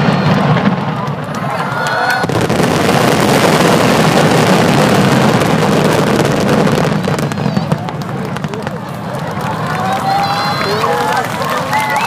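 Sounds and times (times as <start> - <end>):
fireworks bursting: 0.0 - 12.0
fireworks crackling: 0.0 - 12.0.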